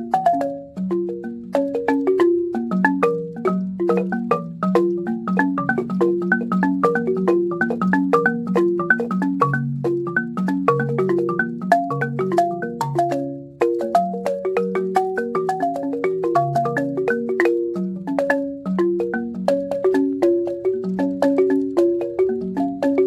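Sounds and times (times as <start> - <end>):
balafon played with mallets: 0.0 - 23.0.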